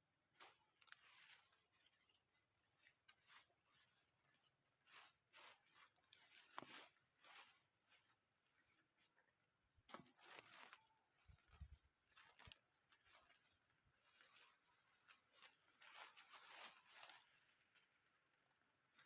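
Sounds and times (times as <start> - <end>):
faint rustling and scraping: 0.3 - 19.0.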